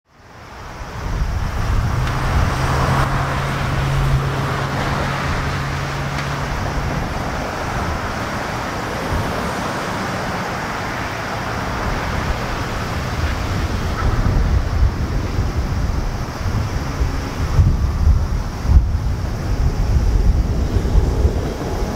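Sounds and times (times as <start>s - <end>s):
jet engines at takeoff: 0.1s - 21.9s.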